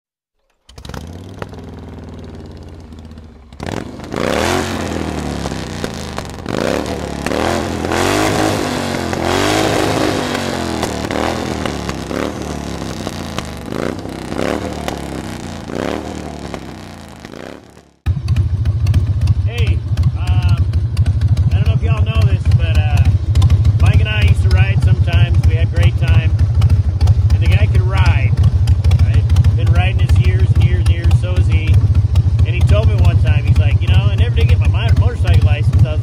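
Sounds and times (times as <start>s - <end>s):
motorcycle engine revving: 0.5s - 36.0s
motorcycle engine idling: 0.7s - 36.0s.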